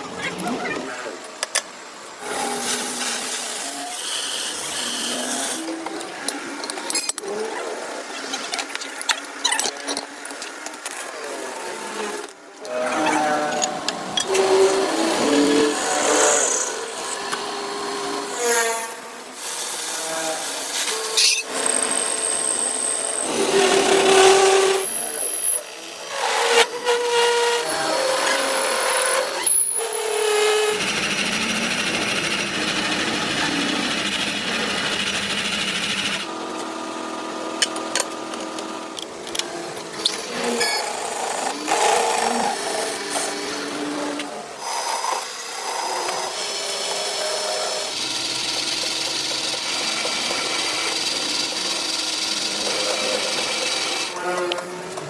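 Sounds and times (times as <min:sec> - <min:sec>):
power tools grinding metal: 0:02.2 - 0:07.4, 0:09.6 - 0:36.6, 0:37.3 - 0:55.0.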